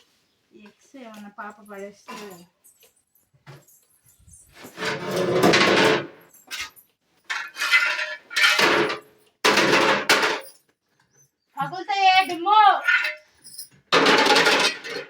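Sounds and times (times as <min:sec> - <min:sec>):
kitchenware clattering and scraping: 0:01.2 - 0:15.0.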